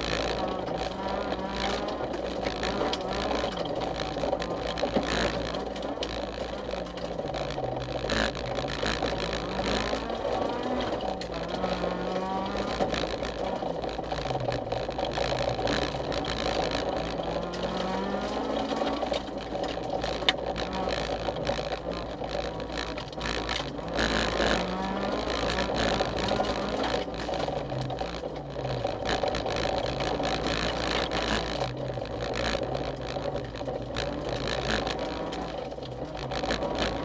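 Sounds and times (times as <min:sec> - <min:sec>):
car engine revving: 0:00.0 - 0:37.0
tyre road and gravel noise: 0:00.0 - 0:37.0.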